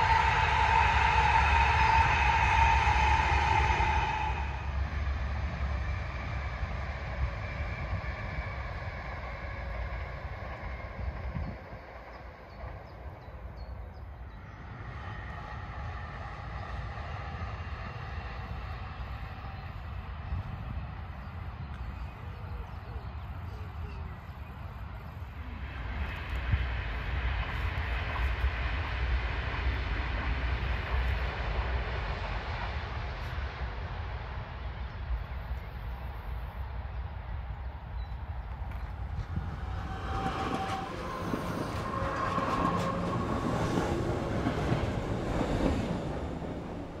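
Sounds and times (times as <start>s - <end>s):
high-speed train passing: 0.0s - 47.0s
wind rumble on microphone: 0.0s - 47.0s.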